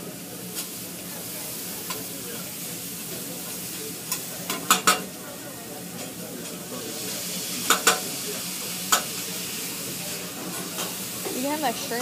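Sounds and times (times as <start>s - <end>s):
food sizzling on griddle: 0.0s - 12.0s.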